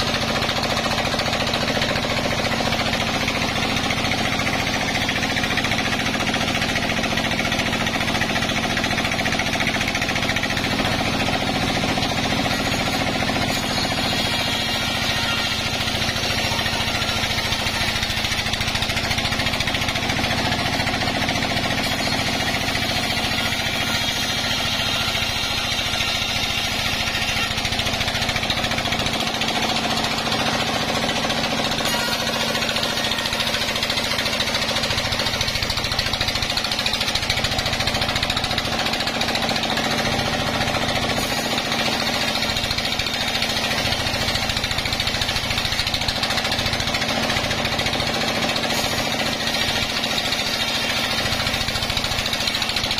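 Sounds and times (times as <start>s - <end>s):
band saw ripping a log: 0.0s - 52.9s.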